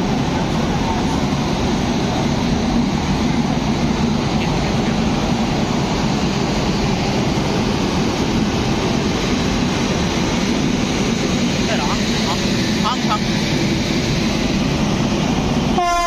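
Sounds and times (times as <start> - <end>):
electric locomotive hum and rumble: 0.0 - 16.0.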